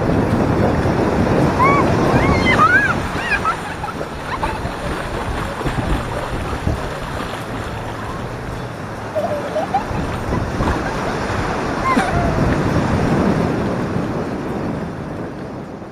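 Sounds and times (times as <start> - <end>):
surf washing up on beach: 0.0 - 15.9.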